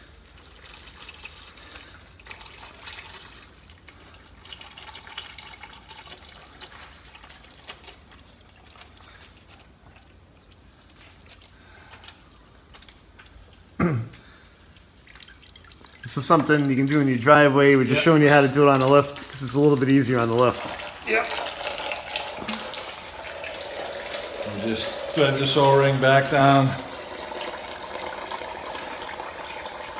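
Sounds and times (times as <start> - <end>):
drips and splashes: 0.0 - 29.9
oil trickling into pan: 0.0 - 29.9.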